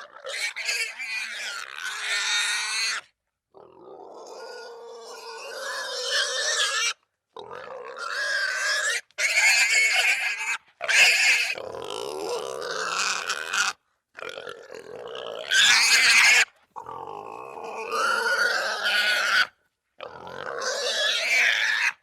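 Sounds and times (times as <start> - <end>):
wild boar calling: 0.0 - 22.0.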